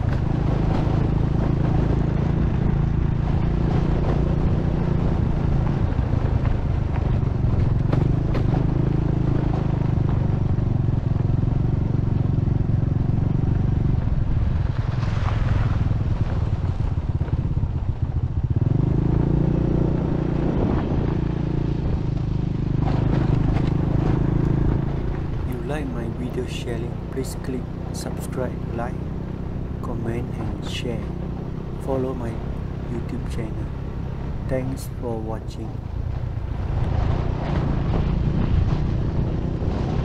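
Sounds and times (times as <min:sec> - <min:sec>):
small motorcycle engine running: 0:00.0 - 0:34.6
road noise: 0:00.0 - 0:40.0.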